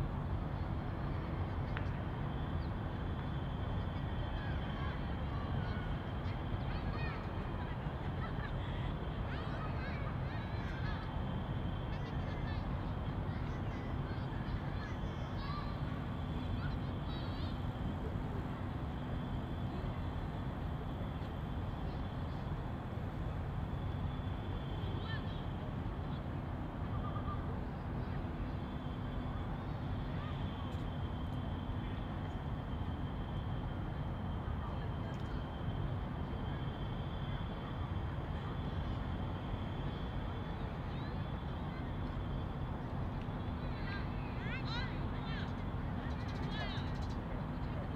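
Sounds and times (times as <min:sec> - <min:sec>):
low urban rumble: 0:00.0 - 0:47.9.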